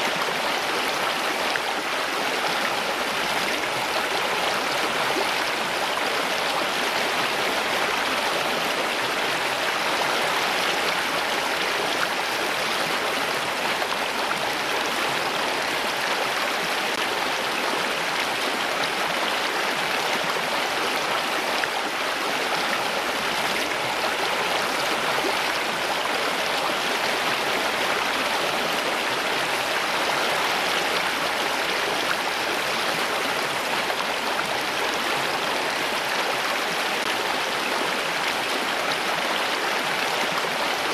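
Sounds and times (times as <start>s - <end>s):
water rushing in stream: 0.0s - 40.9s.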